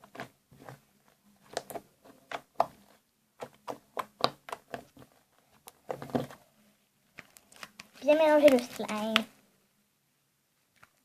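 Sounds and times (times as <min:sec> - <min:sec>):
slime squelching: 0:00.0 - 0:09.4.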